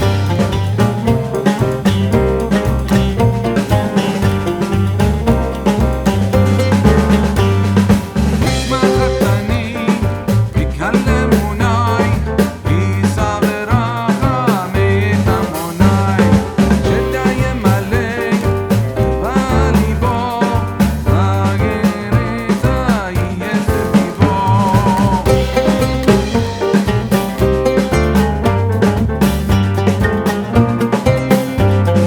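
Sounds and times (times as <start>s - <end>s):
drum kit upbeat rhythm: 0.0s - 32.0s.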